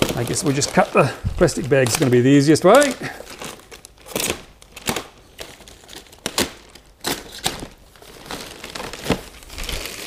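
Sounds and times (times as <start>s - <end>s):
plastic bag crinkling: 0.0s - 10.0s
sharp plastic crackles: 0.0s - 10.0s.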